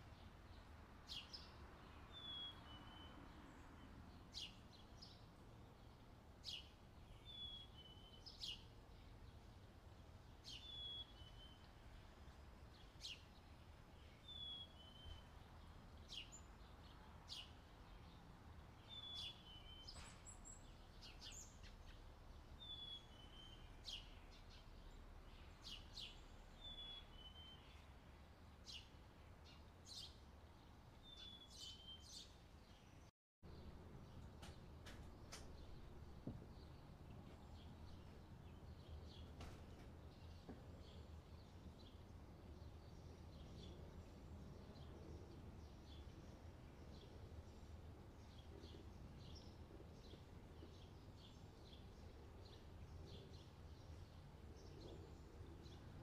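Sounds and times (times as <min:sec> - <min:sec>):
bird chirping: 0:00.0 - 0:12.0, 0:12.7 - 0:56.0.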